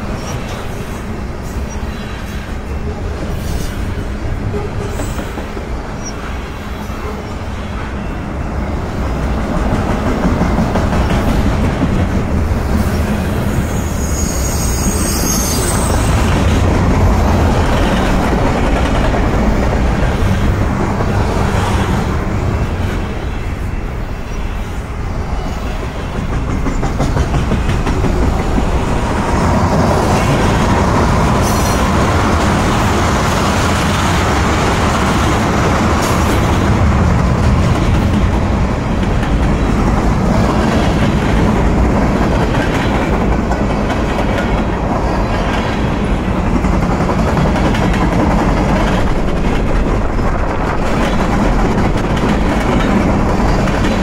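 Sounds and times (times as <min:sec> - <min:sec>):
steel wheels rolling on rail: 0:00.0 - 0:54.0.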